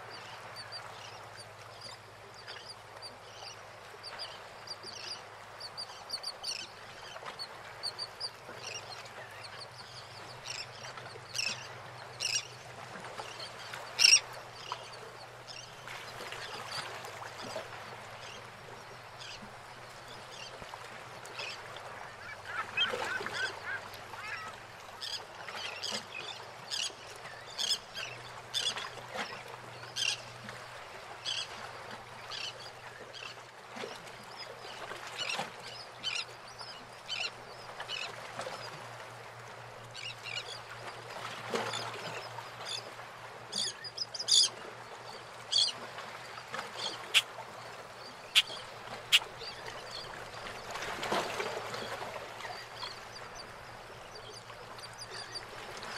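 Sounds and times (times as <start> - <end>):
water lapping against boats: 0.0 - 55.9.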